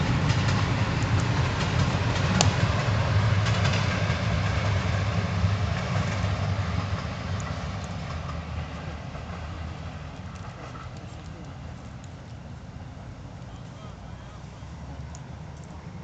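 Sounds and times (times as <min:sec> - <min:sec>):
passing train rumble: 0:00.0 - 0:16.0.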